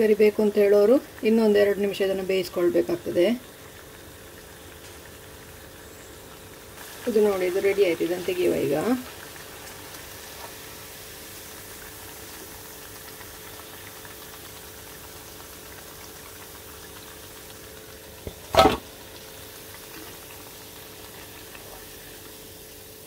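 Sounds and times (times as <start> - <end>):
deep-frying in hot oil: 0.0 - 23.0.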